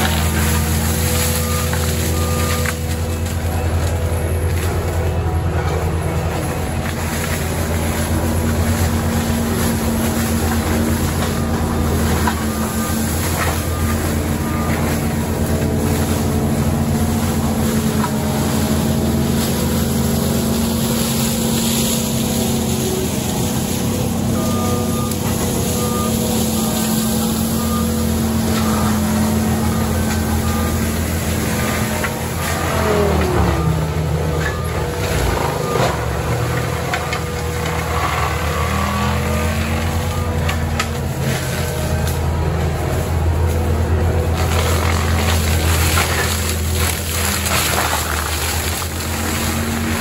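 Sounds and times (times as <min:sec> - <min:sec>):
diesel engine running under load: 0:00.0 - 0:50.0.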